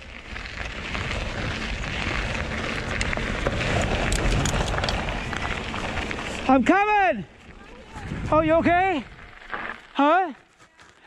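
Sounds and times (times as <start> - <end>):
wind rumbling on microphone: 0.0 - 6.5, 7.3 - 9.7
bike tyres rolling on dirt: 0.0 - 11.0.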